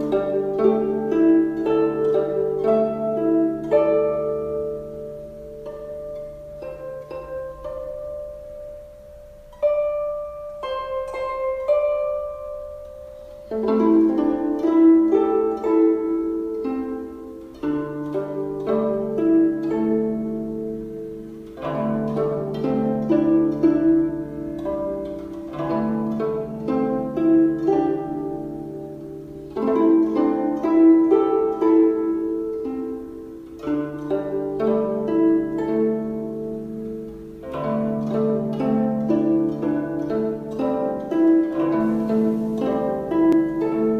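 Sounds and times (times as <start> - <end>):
soft instrumental harp-like music: 0.0 - 43.9.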